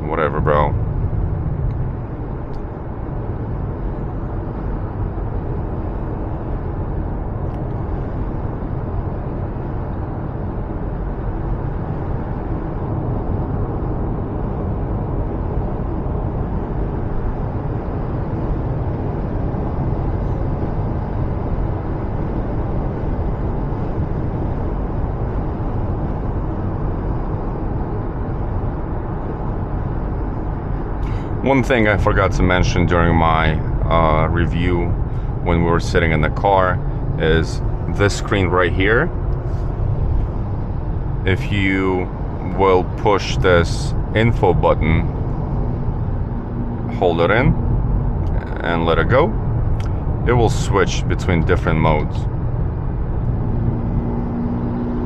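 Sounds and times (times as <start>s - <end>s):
road and tyre noise inside car: 0.0s - 55.0s.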